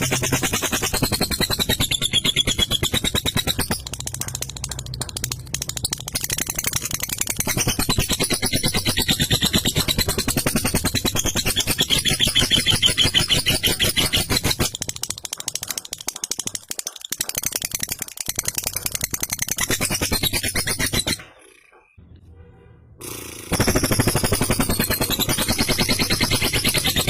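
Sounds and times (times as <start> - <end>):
lovebird rattling chatter: 0.0 - 22.0, 23.5 - 27.0.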